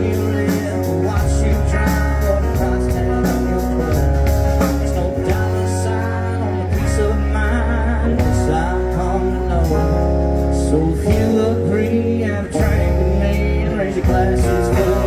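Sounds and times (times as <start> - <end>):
country band playing: 0.0 - 15.0
person singing: 0.0 - 15.0.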